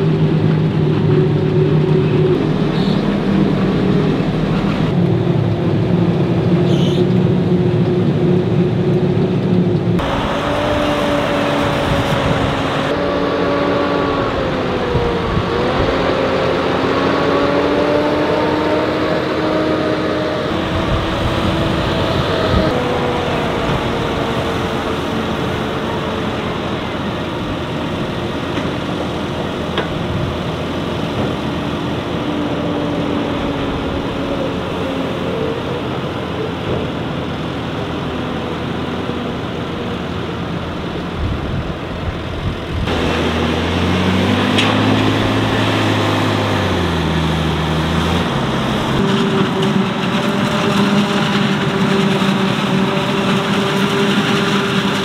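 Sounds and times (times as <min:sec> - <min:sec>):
forage harvester engine drone: 0:00.0 - 0:55.0
tractor engines running: 0:00.0 - 0:55.0.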